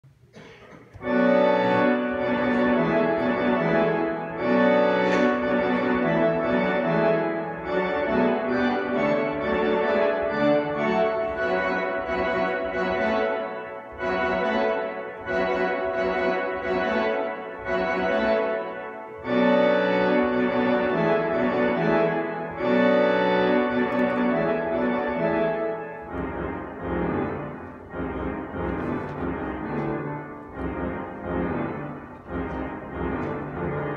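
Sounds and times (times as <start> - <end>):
pipe organ chords: 0.1 - 33.9.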